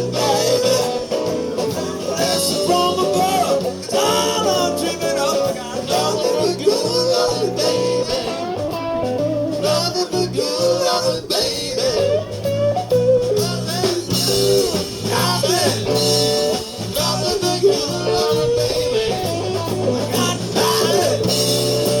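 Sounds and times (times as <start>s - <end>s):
bending electric guitar lines: 0.0s - 22.0s
blues-rock band playing: 0.0s - 22.0s
steady bass: 0.0s - 22.0s.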